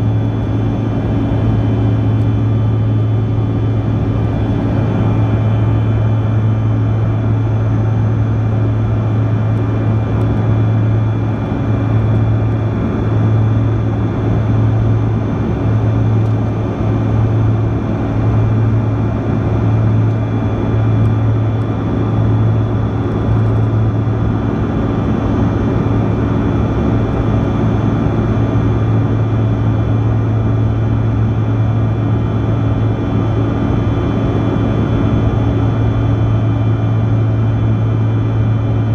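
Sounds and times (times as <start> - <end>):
high engine whine: 0.0 - 38.9
jet cabin engine drone: 0.0 - 38.9.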